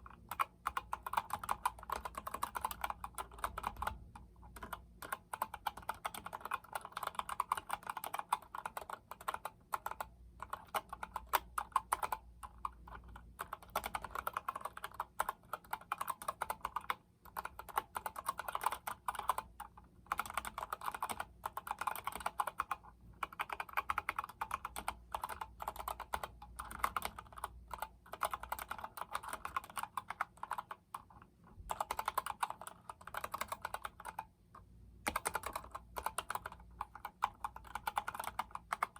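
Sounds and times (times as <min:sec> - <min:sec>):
mechanical keyboard typing: 0:00.0 - 0:34.3, 0:35.0 - 0:38.9.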